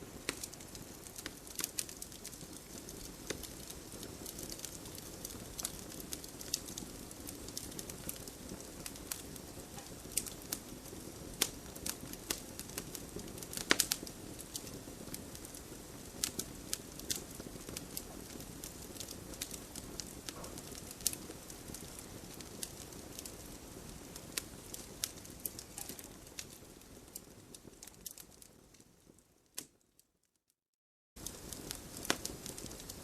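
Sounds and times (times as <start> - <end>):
campfire wood crackling: 0.0 - 30.0, 31.2 - 33.0.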